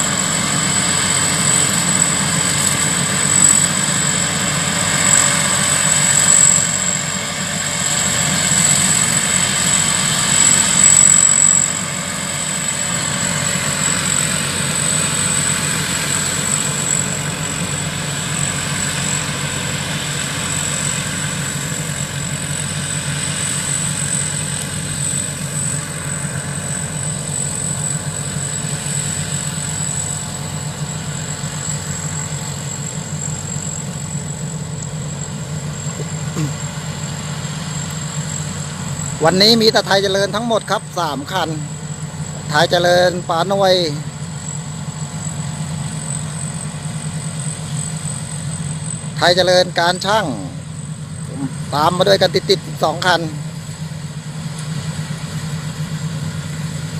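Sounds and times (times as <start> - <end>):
combine harvester engine drone: 0.0 - 56.9
thin high whine: 0.0 - 56.9.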